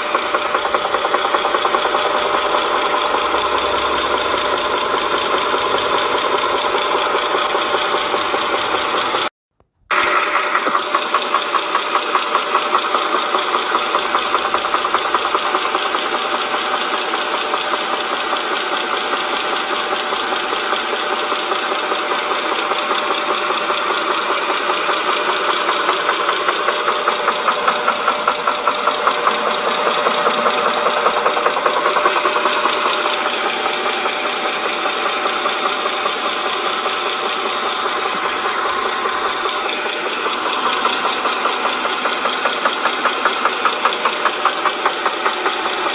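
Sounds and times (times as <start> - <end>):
engine knocking rattle: 0.0 - 9.3, 9.9 - 45.9.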